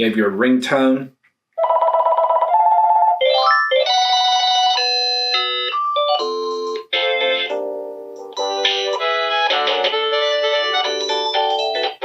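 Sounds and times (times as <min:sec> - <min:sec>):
electronic ringtone melodies: 0:01.6 - 0:12.0.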